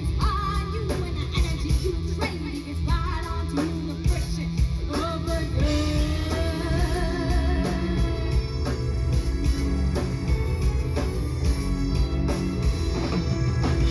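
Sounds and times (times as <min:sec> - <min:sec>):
person singing: 0:00.0 - 0:11.6
rock band playing: 0:00.0 - 0:13.9.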